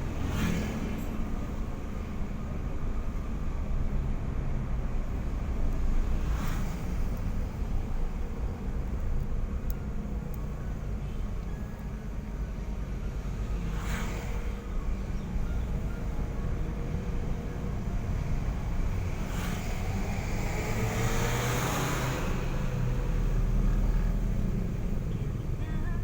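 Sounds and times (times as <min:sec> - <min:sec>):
car engine and tyres rumbling: 0:00.0 - 0:26.0
vehicles passing: 0:00.0 - 0:26.0.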